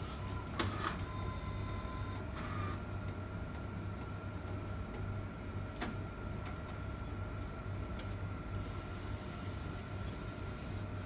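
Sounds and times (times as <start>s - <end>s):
printer mechanical whir: 0.0s - 11.0s.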